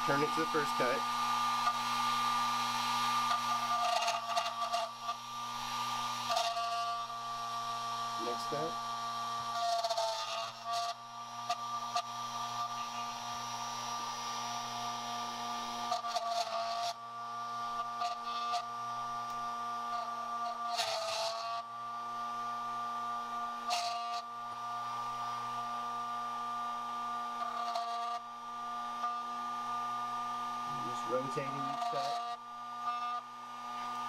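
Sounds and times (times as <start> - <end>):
key cutting machine whining: 0.0 - 34.0.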